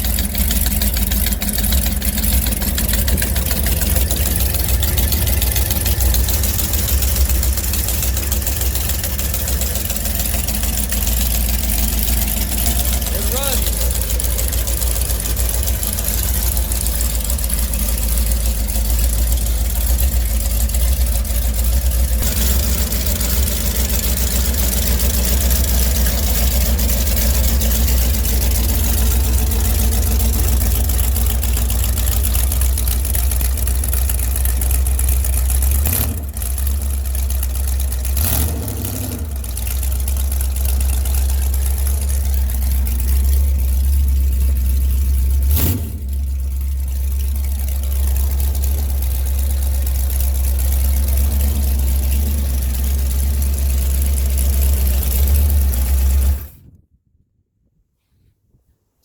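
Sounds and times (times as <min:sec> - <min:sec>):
boat engine idling loudly: 0:00.0 - 0:56.6.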